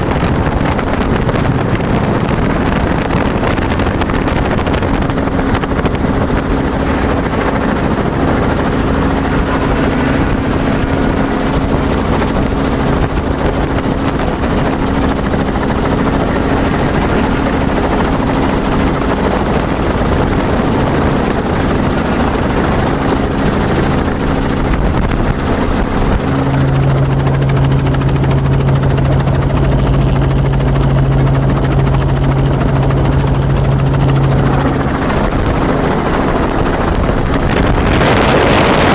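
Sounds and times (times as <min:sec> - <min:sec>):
deeper hum: 0:00.0 - 0:38.9
helicopter engine and rotor drone: 0:00.0 - 0:38.9.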